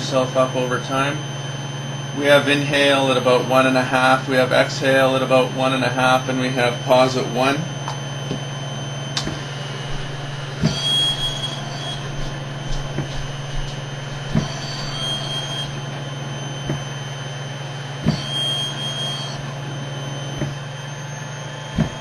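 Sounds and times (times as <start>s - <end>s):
blower hum: 0.0s - 22.0s.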